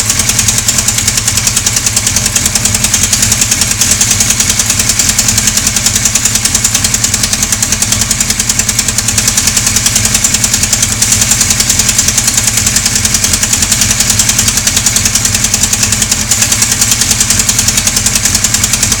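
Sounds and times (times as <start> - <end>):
car engine idling: 0.0 - 19.0
fast engine ticking: 0.0 - 19.0.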